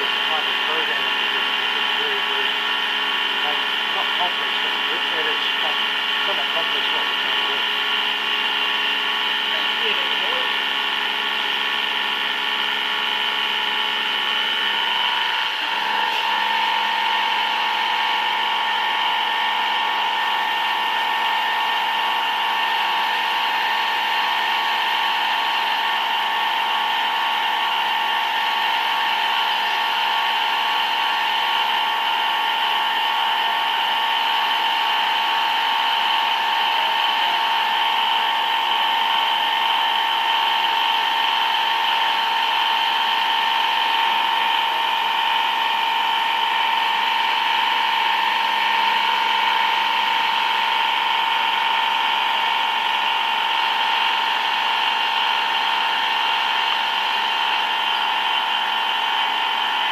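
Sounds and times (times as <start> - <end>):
machine tool high-pitched whine: 0.0 - 59.9.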